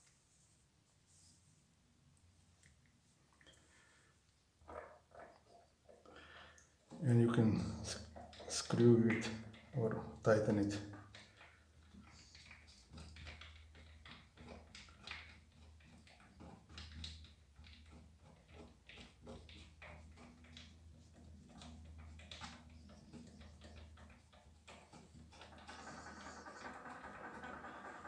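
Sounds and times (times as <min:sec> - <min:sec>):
faint irregular clicks: 0:02.1 - 0:28.0.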